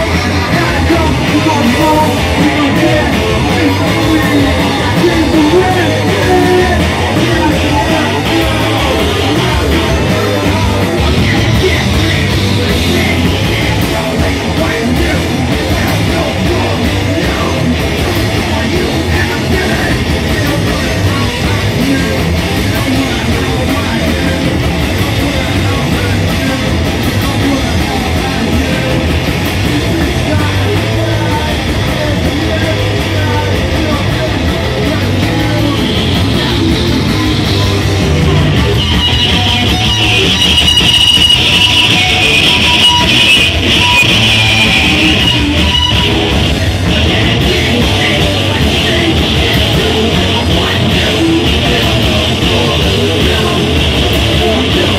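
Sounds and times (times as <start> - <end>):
drum kit: 0.0 - 54.9
electric guitars: 0.0 - 54.9.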